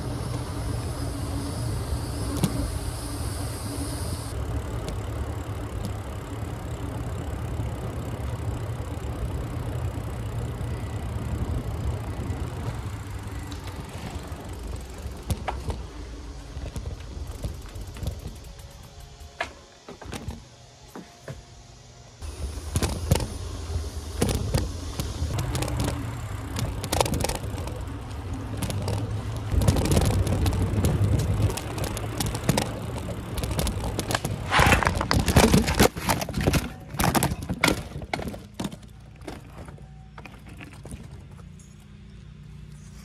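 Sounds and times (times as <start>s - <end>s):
bike rattling and knocking: 0.0s - 21.0s, 22.2s - 42.0s.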